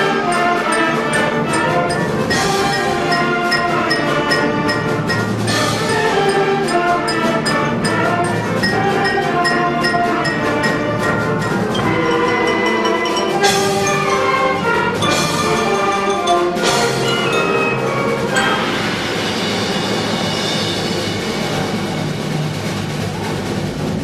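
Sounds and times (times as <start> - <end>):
wind and brass holding chords: 0.0 - 20.1
percussion strokes: 0.0 - 24.0.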